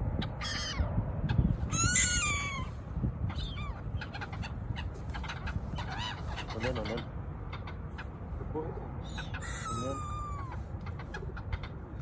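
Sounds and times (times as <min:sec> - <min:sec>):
gulls calling harshly: 0:00.0 - 0:12.0.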